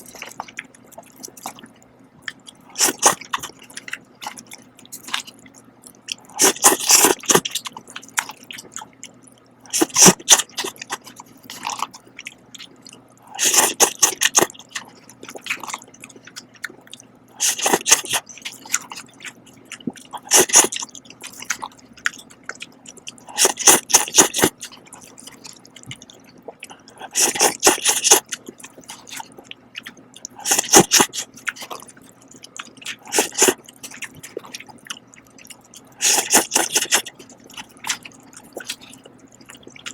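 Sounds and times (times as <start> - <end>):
faint steady hum: 0.0 - 39.9
slurping and chewing noodles: 0.0 - 39.9.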